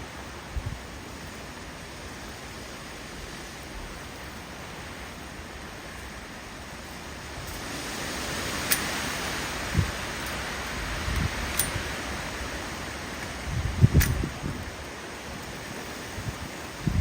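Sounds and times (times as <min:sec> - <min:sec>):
heavy rain: 0:00.0 - 0:17.0
wind: 0:00.0 - 0:17.0.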